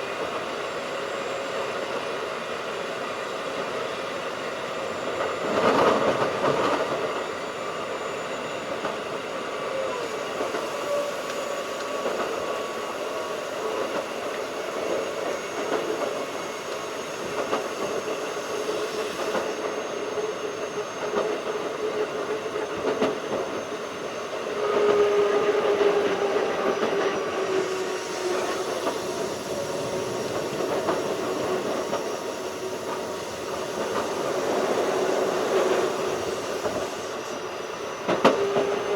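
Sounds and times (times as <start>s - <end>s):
train motor and gear hum: 0.0s - 38.9s
train wheels rumbling on rail: 0.0s - 38.9s.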